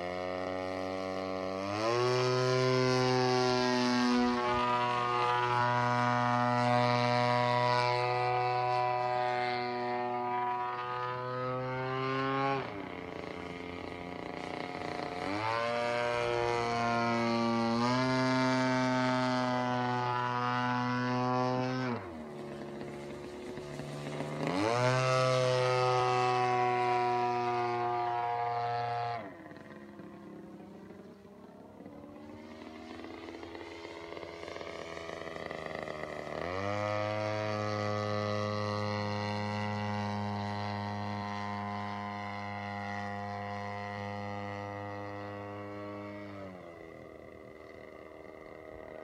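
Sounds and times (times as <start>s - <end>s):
propeller plane engine: 0.0s - 49.0s.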